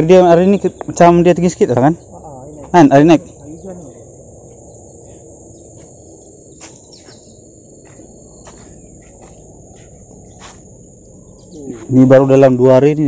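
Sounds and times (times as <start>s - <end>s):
crickets droning: 0.0s - 13.0s.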